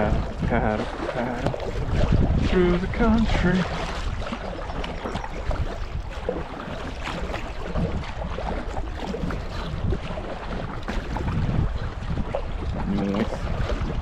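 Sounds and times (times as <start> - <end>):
paddle splashing in water: 0.0 - 14.0
wind buffeting microphone: 0.0 - 14.0.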